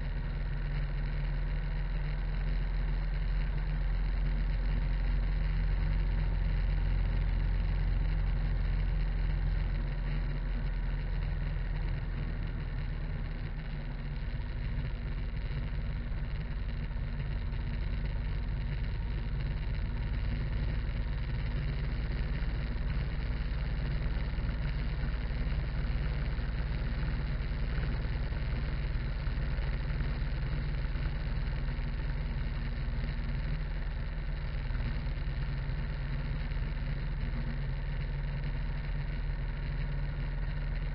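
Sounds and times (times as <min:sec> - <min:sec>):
motorcycle engine rumble: 0:00.0 - 0:40.9.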